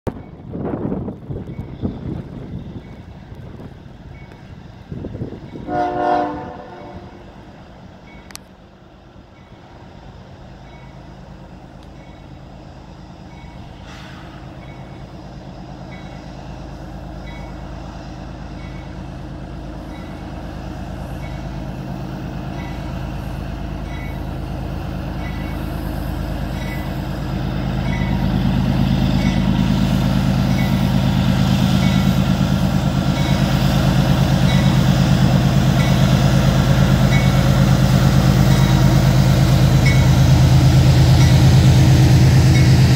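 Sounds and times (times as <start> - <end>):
diesel locomotive engine: 0.0 - 42.9.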